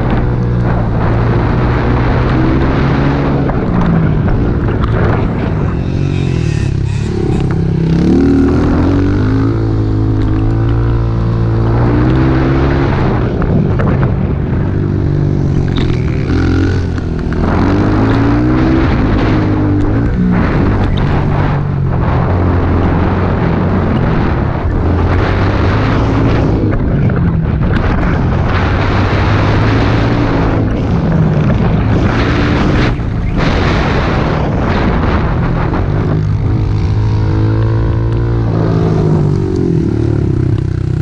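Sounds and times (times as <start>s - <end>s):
pit bike engine revving: 0.0s - 26.6s, 27.8s - 41.0s.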